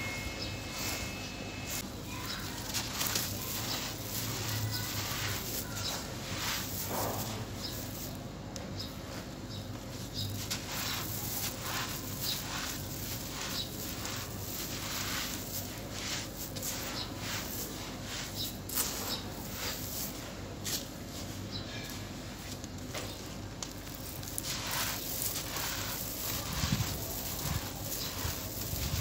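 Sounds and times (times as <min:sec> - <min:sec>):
sand crumbs crunching by hand: 0:00.0 - 0:29.0
grains pattering down: 0:01.7 - 0:08.9, 0:09.6 - 0:21.0, 0:22.3 - 0:29.0.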